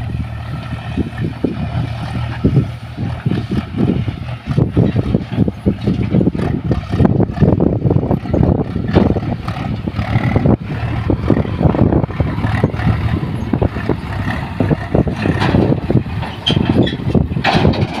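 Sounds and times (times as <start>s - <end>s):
heavy diesel machinery running: 0.0s - 18.0s
machinery knocks and clatter: 0.2s - 18.0s.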